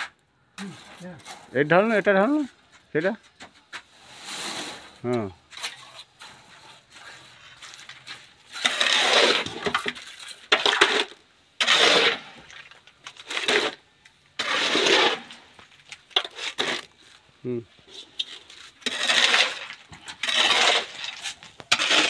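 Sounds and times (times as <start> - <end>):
wet concrete scraping: 0.0 - 22.0.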